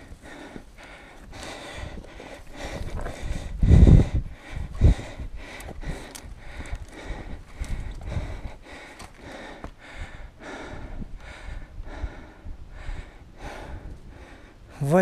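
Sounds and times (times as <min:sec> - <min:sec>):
person breathing heavily: 0:00.0 - 0:14.8.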